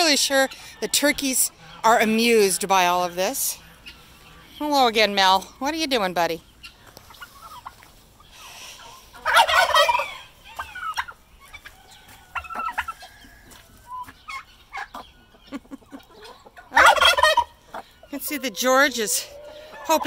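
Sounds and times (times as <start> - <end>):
turkey gobbling: 0.0 - 4.6, 6.6 - 20.0
poultry calling: 0.0 - 20.0.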